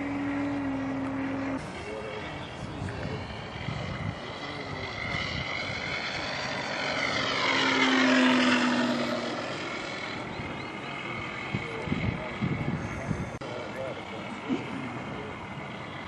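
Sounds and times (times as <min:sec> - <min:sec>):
model plane motor and propeller: 0:00.0 - 0:16.0.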